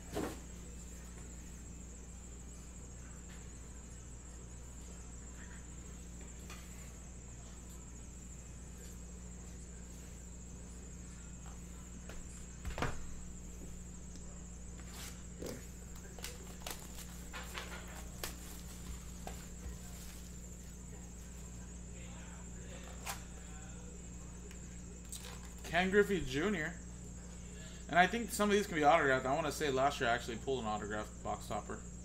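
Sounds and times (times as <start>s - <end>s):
electrical hum with high whine: 0.0s - 32.0s.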